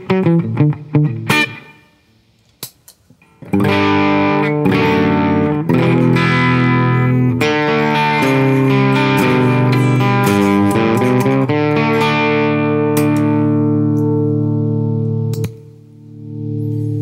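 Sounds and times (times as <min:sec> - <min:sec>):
electric guitar chords: 0:00.0 - 0:02.1, 0:03.2 - 0:17.0.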